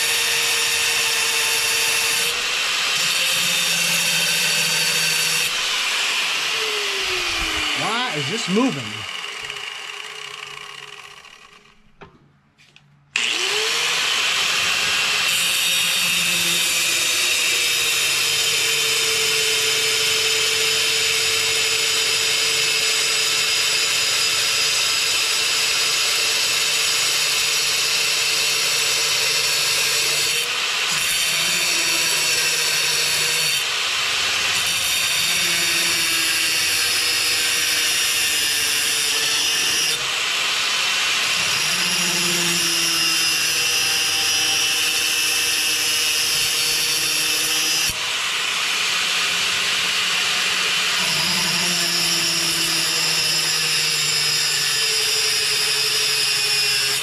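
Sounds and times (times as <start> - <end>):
angle grinder cutting metal: 0.0 - 11.8, 13.2 - 57.0.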